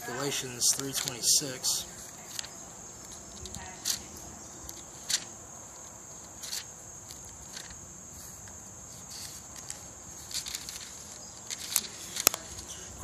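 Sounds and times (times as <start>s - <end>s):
insects chorus buzzing: 0.0s - 13.0s.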